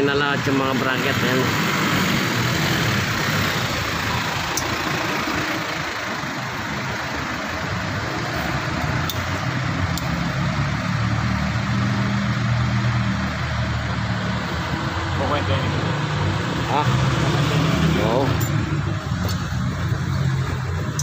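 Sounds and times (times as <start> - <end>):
engine-like humming with hiss: 0.0 - 21.0.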